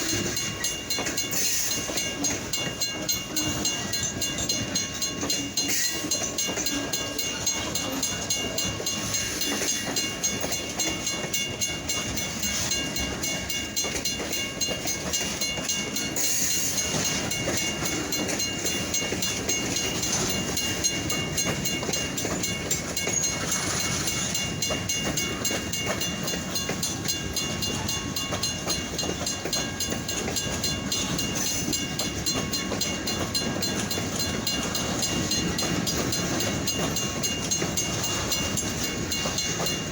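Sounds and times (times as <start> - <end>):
train wheels clacking on rails: 0.0 - 39.9.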